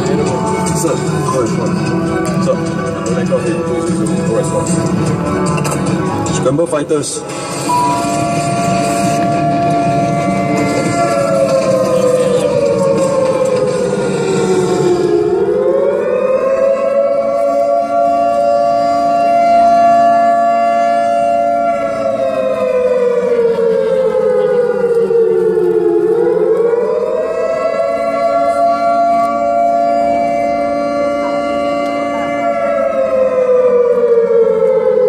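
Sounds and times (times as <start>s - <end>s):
air-raid siren: 0.0s - 35.0s.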